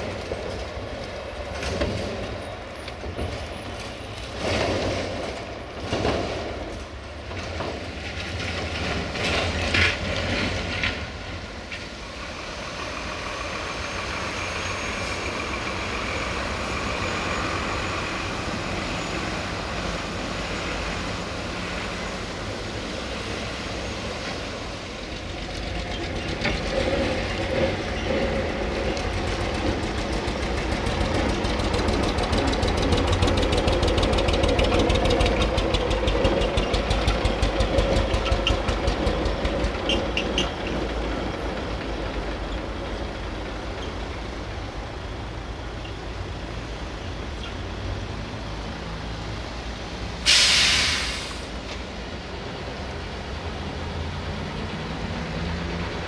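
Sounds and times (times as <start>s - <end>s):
diesel truck engine passing: 8.2s - 56.0s.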